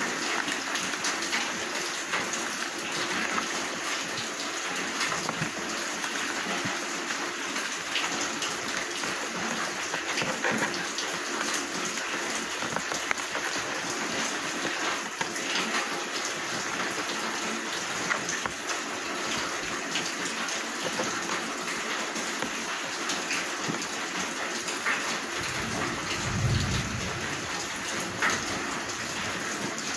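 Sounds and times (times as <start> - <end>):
rain hiss: 0.0 - 29.9.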